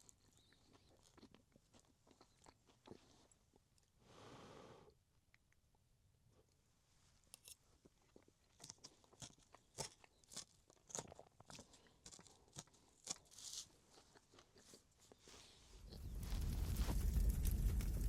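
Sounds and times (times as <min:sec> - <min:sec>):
crunchy food being chewed: 0:00.0 - 0:04.0, 0:07.4 - 0:18.0.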